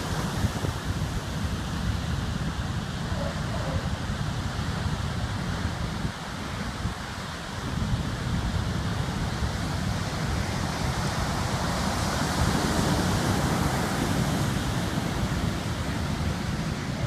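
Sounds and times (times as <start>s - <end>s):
heavy surf breaking: 0.0s - 3.1s, 4.2s - 17.0s
wind buffeting microphone: 0.0s - 17.0s.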